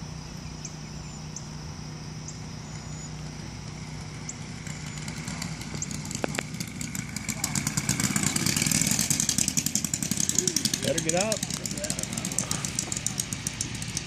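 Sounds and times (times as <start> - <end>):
model plane engines running: 0.0 - 14.0.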